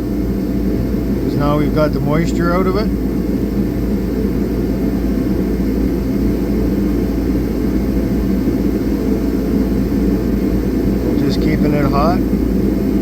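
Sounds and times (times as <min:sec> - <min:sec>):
heater running with loud rumble: 0:00.0 - 0:13.0.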